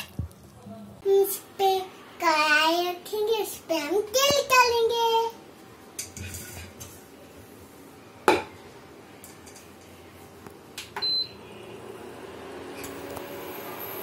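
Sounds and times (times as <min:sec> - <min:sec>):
cooktop fan humming: 0:00.0 - 0:14.0.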